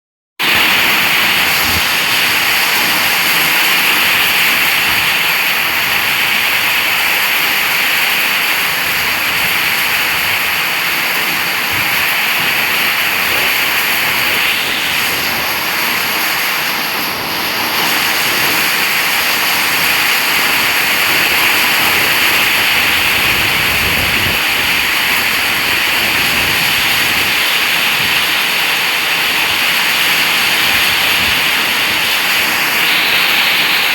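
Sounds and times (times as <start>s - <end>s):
heavy rain with wind: 0.4s - 33.9s.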